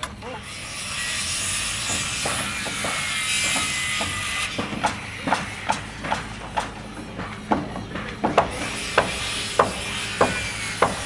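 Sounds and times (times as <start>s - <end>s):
ringing hammer strikes: 1.9s - 11.0s.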